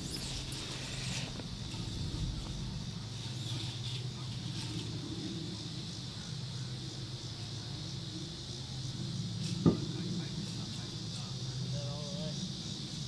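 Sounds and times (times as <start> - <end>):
high insect drone: 0.0 - 13.0
low engine hum: 0.0 - 13.0.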